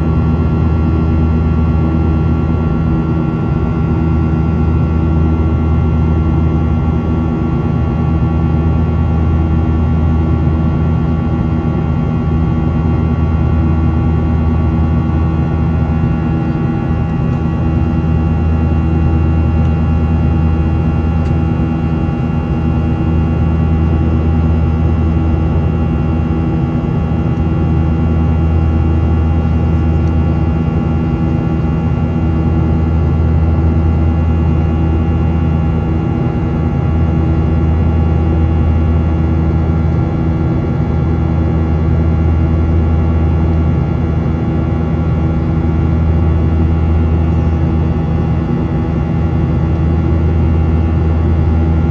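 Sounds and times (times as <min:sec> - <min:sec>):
jet engines droning in cabin: 0:00.0 - 0:51.9.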